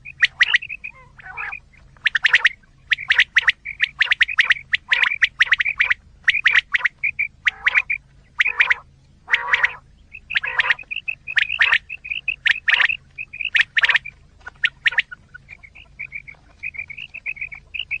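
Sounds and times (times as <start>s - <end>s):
quail calling sharp notes: 0.0s - 18.0s.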